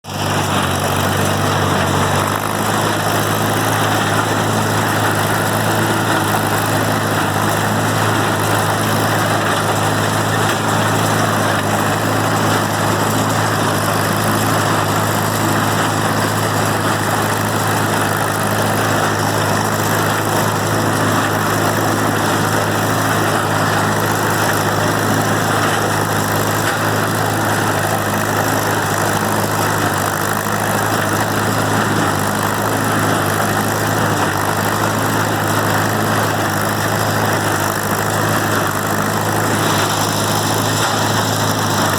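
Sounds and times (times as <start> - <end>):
engine hum: 0.0 - 41.9
hay baler clattering: 0.0 - 41.9.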